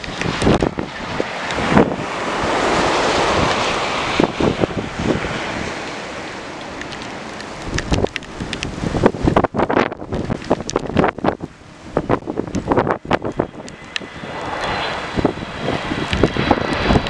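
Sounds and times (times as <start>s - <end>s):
wind buffeting thumps on microphone: 0.0s - 6.0s, 6.6s - 17.0s
gusty wind rushing: 0.0s - 17.0s.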